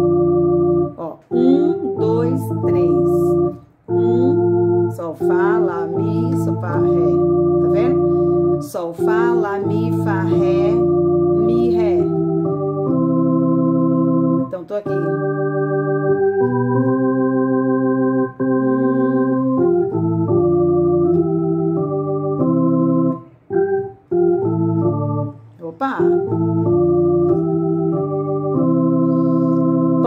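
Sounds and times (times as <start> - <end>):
electronic organ playing a hymn: 0.0 - 30.0.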